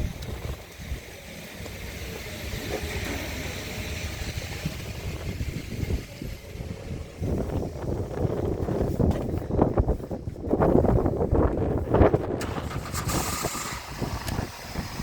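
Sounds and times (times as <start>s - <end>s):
car engine idling: 0.0s - 15.0s
wind buffeting on microphone: 0.0s - 15.0s.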